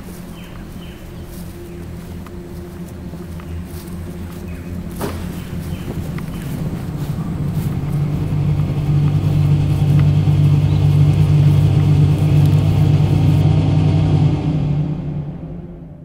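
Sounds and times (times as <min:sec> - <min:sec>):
low droning rumble: 0:00.0 - 0:16.0.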